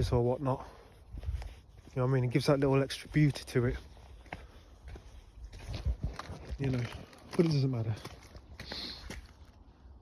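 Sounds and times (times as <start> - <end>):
footsteps outdoors: 0.0 - 10.0.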